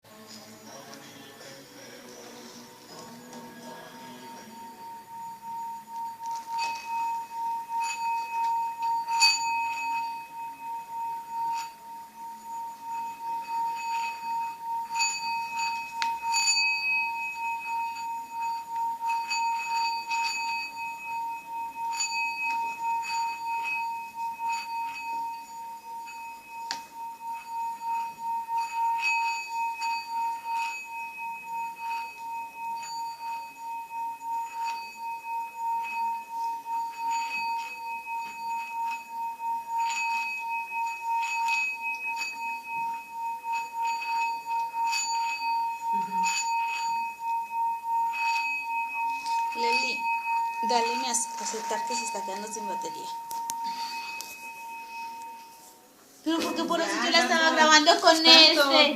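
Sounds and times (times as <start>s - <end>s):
singing bowl ringing: 0.1s - 58.9s.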